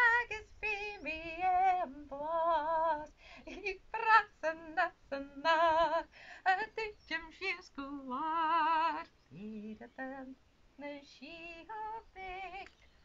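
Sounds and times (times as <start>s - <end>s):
woman singing unaccompanied: 0.0s - 12.9s.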